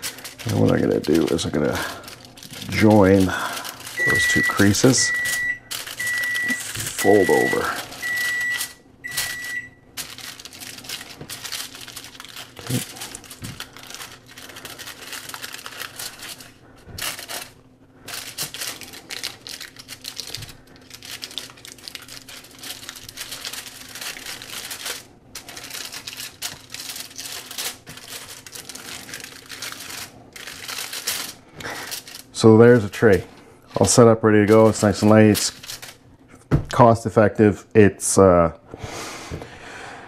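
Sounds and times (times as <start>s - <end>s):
aluminum foil crinkling: 0.0s - 36.1s.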